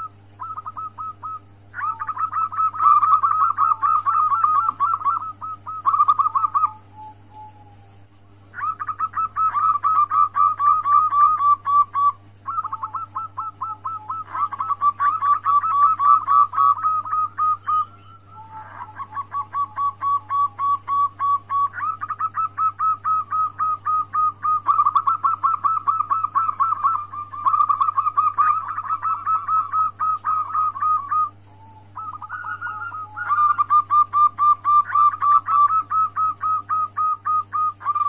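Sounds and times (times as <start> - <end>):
dove cooing rapidly: 0.0 - 38.0.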